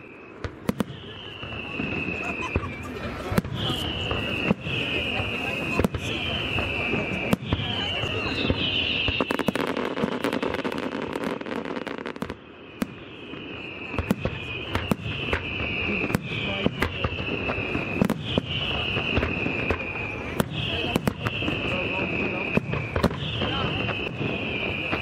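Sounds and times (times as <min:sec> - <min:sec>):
fireworks bangs: 0:00.0 - 0:25.0
fireworks crackling: 0:00.0 - 0:25.0
fireworks whistles falling in pitch: 0:00.0 - 0:25.0.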